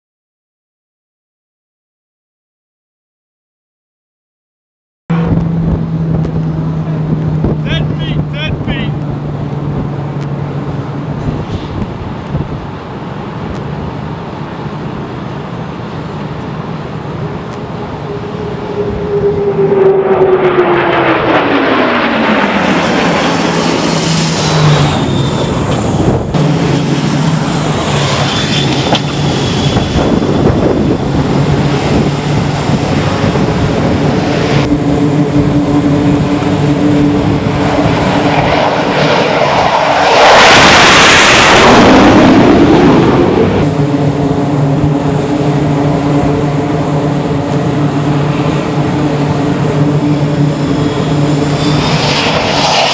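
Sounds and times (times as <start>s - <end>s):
jet engine on approach: 5.1s - 52.9s
turboprop aircraft passing low: 5.1s - 52.9s.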